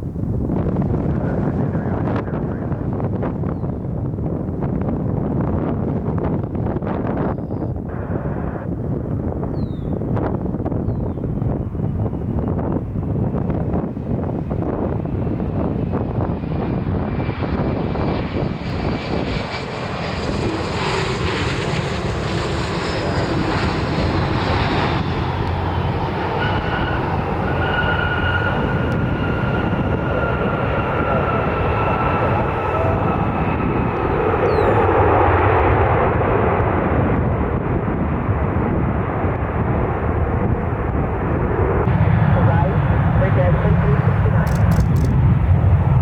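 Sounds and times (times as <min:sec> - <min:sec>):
jet aircraft rumble: 0:00.0 - 0:46.0
jet engine whine: 0:00.0 - 0:46.0.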